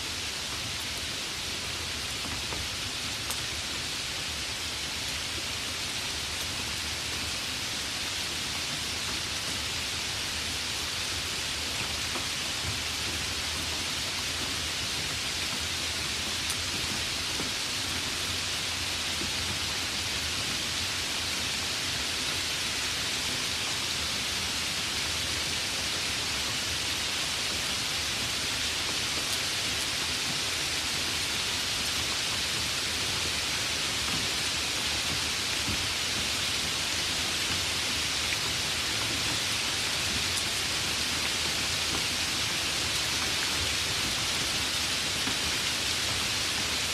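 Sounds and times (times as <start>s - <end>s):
heavy rain falling: 0.1s - 46.9s.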